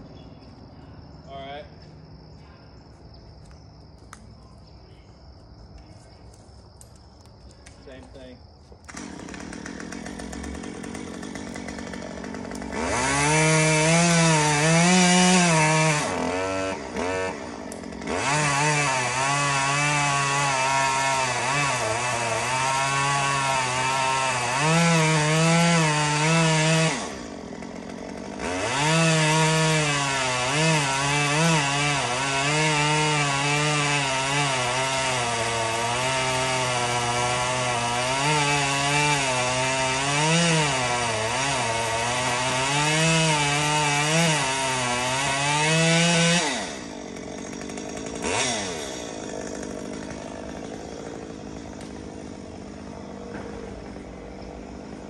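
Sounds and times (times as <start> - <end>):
chainsaw cutting wood: 6.8 - 55.0.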